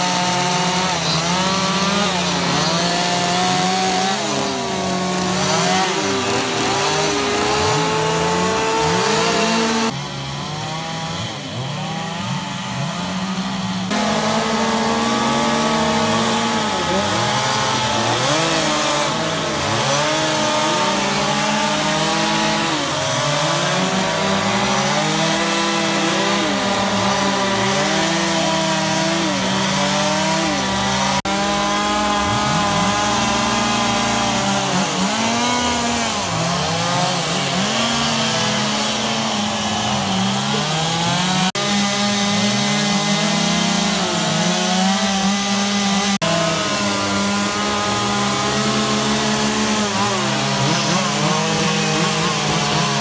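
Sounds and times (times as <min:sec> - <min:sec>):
chainsaws carving wood: 0:00.0 - 0:53.0.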